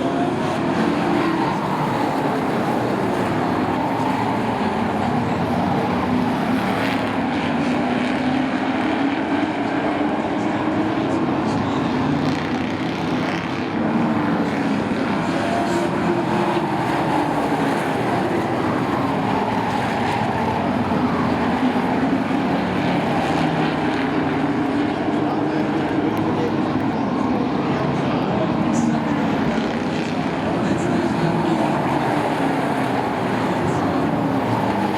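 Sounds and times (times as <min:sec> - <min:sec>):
racing truck engines passing: 0:00.0 - 0:34.9.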